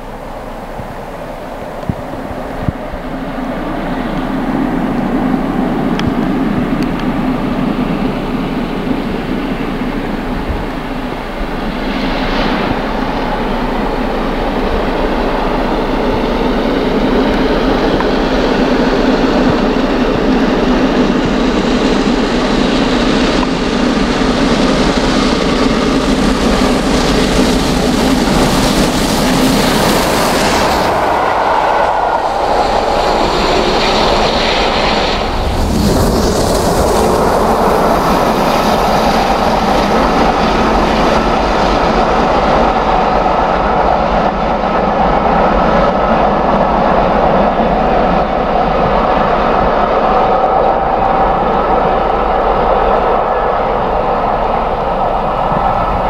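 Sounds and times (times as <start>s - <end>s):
steam locomotive passing: 0.0s - 56.0s.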